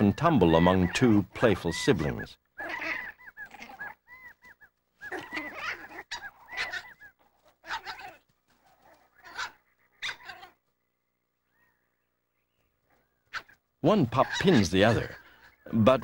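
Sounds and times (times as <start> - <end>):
coyote pups yipping and growling: 0.0 - 16.0.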